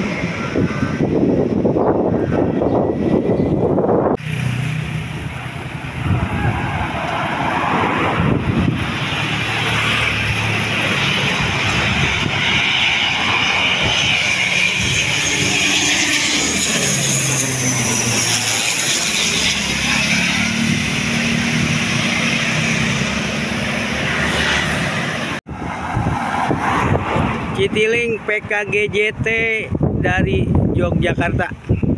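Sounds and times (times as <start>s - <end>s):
propeller drone: 0.0s - 28.5s
turbine whine: 0.0s - 28.5s.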